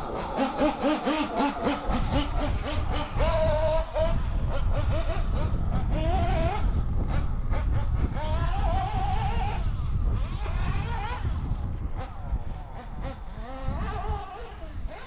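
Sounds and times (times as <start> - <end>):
rc car engine revving: 0.0 - 15.0.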